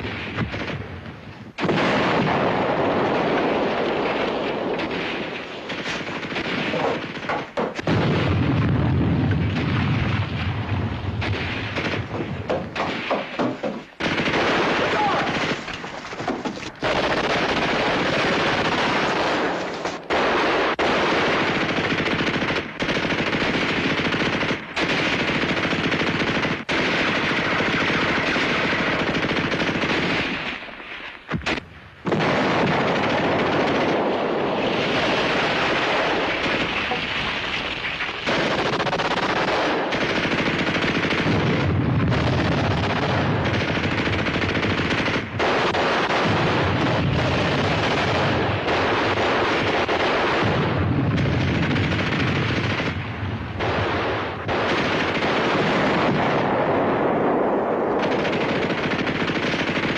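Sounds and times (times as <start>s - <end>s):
machine-gun and rifle fire: 0.0s - 1.0s, 1.6s - 59.9s.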